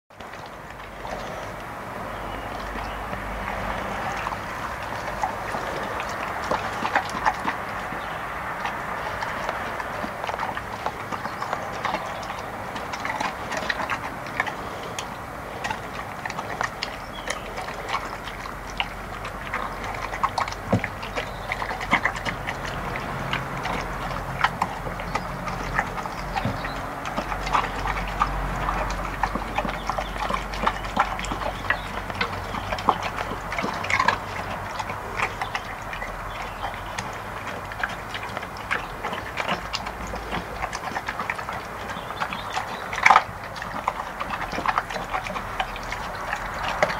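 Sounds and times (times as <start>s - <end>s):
dog chewing and gulping: 0.1s - 46.9s.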